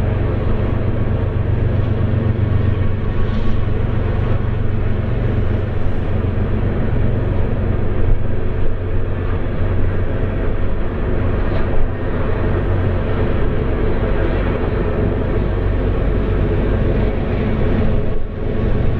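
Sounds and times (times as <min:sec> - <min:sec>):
locomotive engine drone: 0:00.0 - 0:18.9.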